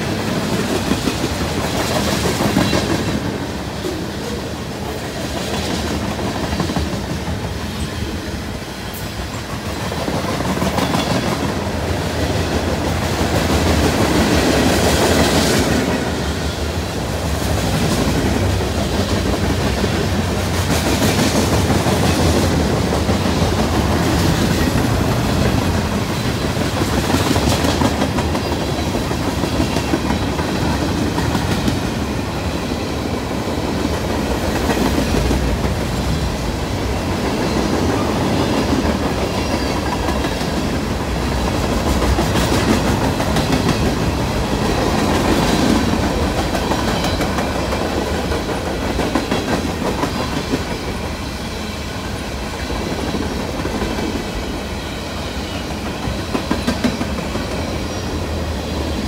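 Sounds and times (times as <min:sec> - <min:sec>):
freight train cars rumbling past: 0:00.0 - 0:59.0.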